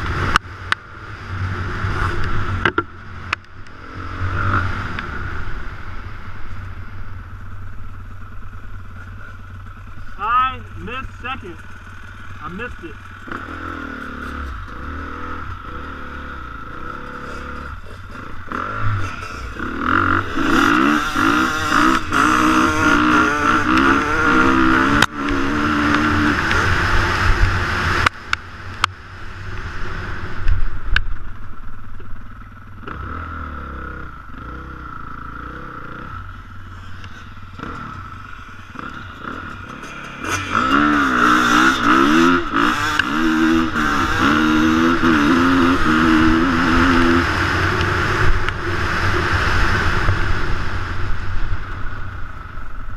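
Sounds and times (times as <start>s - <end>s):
dirt bike engine revving: 0.0s - 6.2s, 7.0s - 28.2s, 32.8s - 51.2s.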